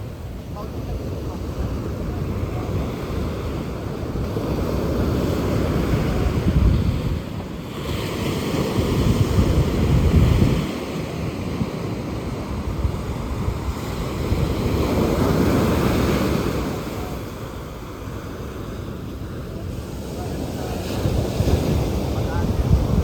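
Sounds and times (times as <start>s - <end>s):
sea waves washing onto beach: 0.0s - 23.0s
wind rumbling on microphone: 0.0s - 23.0s.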